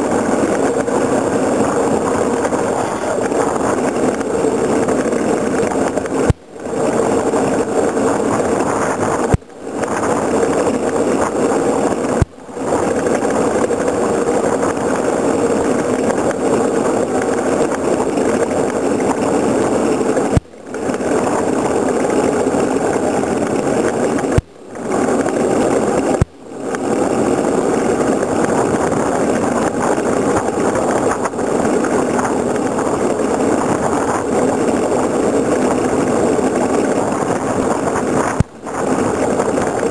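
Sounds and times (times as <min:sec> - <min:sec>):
cart wheels rumbling on asphalt: 0:00.0 - 0:39.9
wind: 0:00.0 - 0:39.9.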